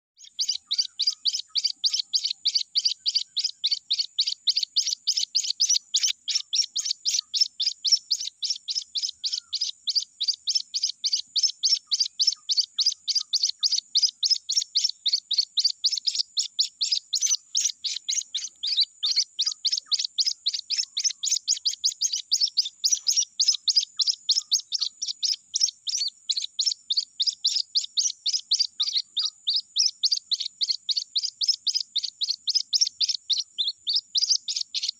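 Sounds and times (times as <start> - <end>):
bird chick peeping: 0.1 - 34.9.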